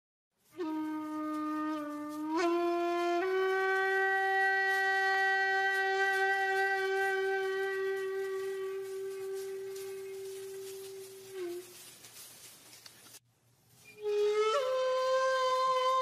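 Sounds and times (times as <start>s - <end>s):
horn-like wind instrument note: 0.5s - 11.8s, 13.9s - 16.0s.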